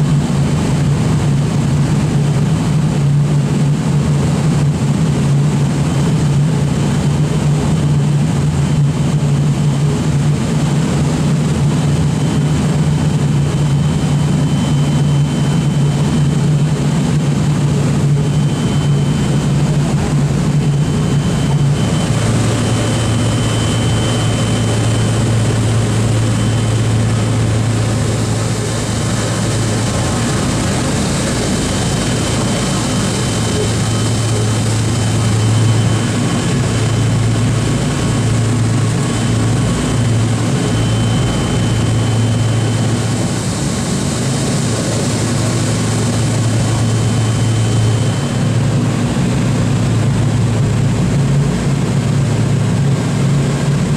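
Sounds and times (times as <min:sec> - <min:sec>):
propeller engines droning: 0:00.0 - 0:53.9.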